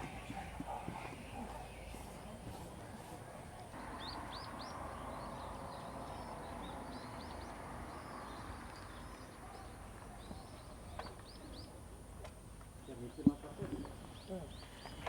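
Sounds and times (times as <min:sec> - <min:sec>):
small birds chirping: 0:00.0 - 0:15.0
steady low hiss: 0:00.0 - 0:15.0.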